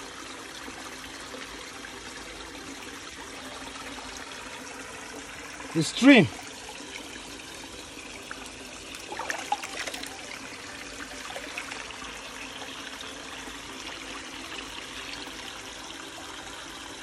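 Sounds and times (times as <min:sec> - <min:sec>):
stream trickling over rocks: 0:00.0 - 0:17.0.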